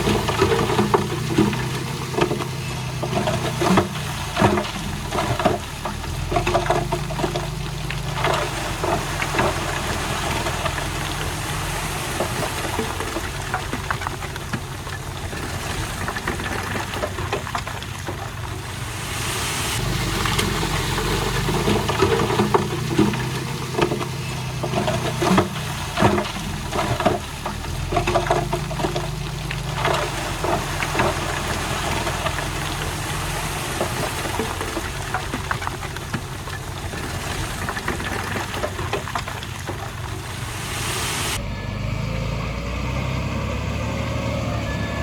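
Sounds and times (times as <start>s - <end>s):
metal clanks and knocks: 0.0s - 18.7s, 19.8s - 40.5s
heavy machinery diesel engine: 0.0s - 45.0s.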